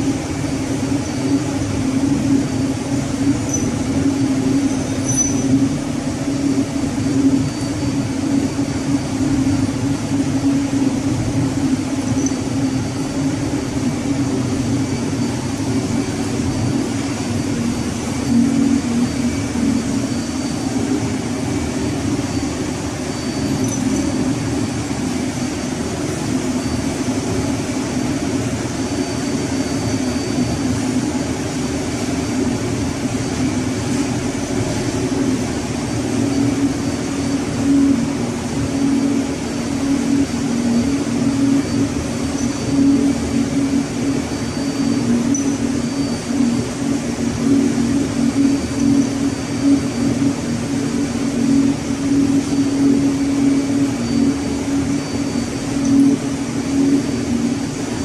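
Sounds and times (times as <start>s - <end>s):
engine-room machinery hum: 0.0s - 58.0s.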